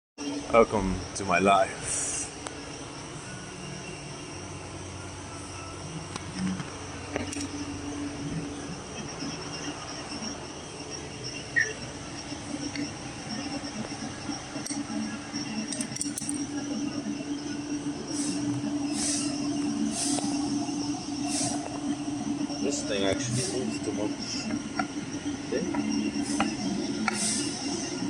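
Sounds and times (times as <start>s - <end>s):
high-pitched whine: 0.2s - 28.0s.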